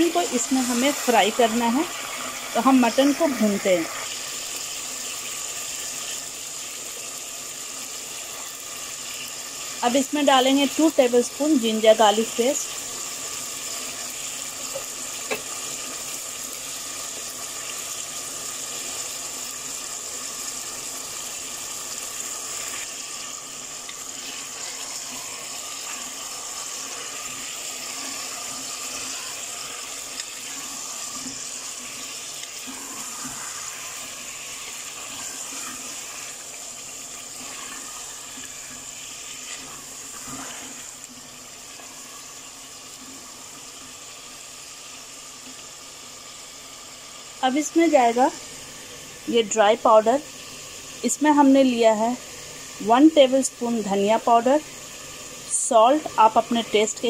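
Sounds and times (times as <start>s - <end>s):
meat sizzling in hot oil: 0.0s - 57.0s.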